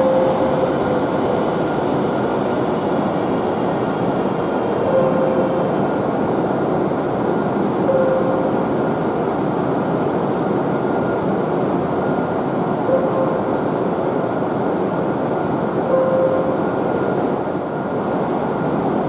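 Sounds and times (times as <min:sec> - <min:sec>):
high-speed train running: 0:00.0 - 0:19.0.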